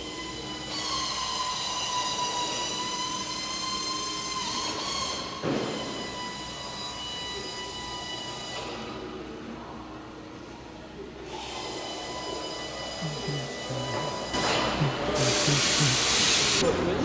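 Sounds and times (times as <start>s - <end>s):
high-pitched mechanical whine: 0.0s - 9.8s, 11.2s - 17.0s.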